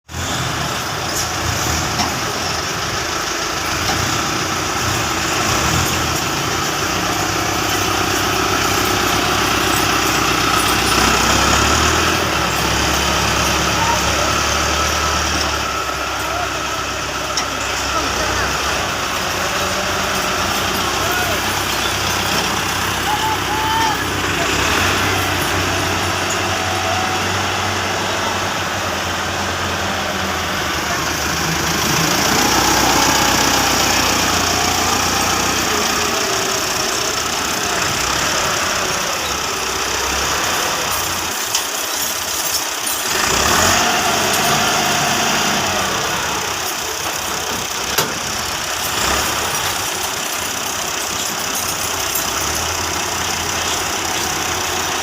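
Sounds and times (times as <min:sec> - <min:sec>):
tractor engine rumbling: 0:00.0 - 0:55.0.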